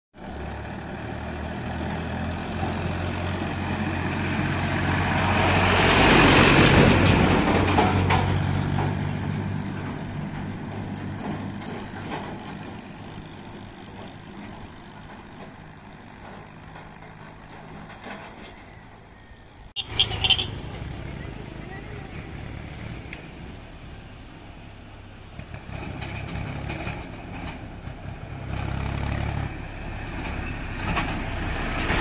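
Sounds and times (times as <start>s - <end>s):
tractor engine driving past: 0.2s - 32.0s.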